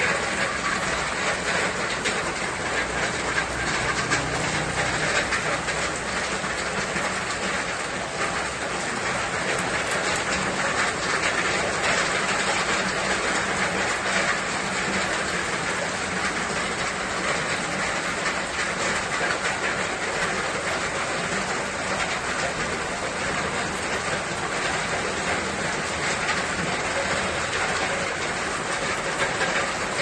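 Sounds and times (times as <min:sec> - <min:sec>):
steady rainfall: 0:00.0 - 0:30.0.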